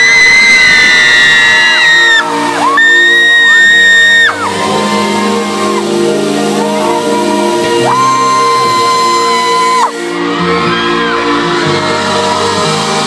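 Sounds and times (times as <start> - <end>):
fans screaming: 0.0 - 13.0
pop concert music: 0.0 - 13.0.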